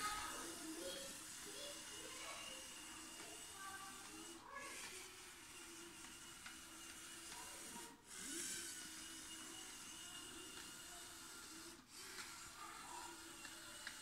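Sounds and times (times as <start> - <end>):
plastic wheels rolling on track: 0.0 - 14.0
small electric motor whirring: 0.0 - 14.0.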